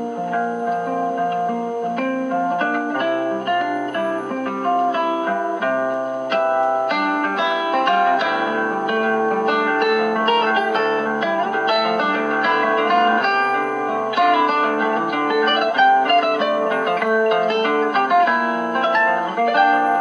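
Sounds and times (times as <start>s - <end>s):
acoustic guitar music on radio: 0.0s - 20.0s.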